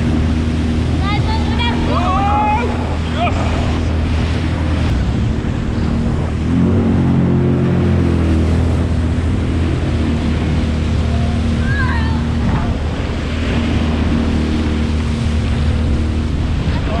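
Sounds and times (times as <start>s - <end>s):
jet ski engine drone: 0.0s - 17.0s.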